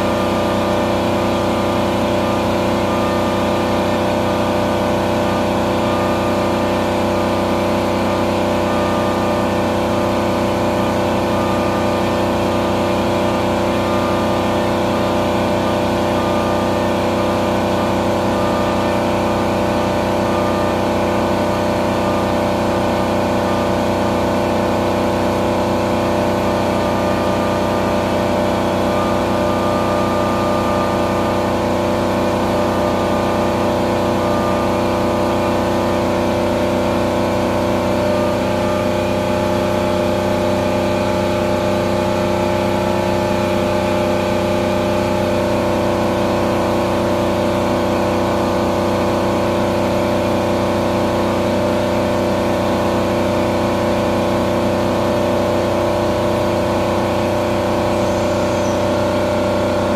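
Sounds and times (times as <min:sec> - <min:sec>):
milling machine whine: 0:00.0 - 0:59.9.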